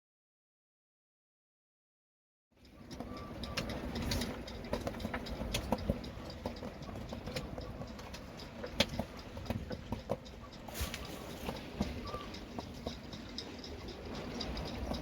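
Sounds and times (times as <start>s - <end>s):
clicks and light rattles: 2.6s - 15.0s
gusty wind on microphone: 2.8s - 15.0s.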